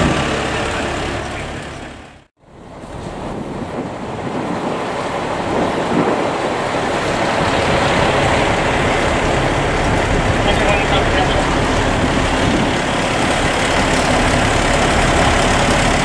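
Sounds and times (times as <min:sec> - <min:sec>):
fire engines running: 0:00.0 - 0:16.0
wind on microphone: 0:02.4 - 0:16.0.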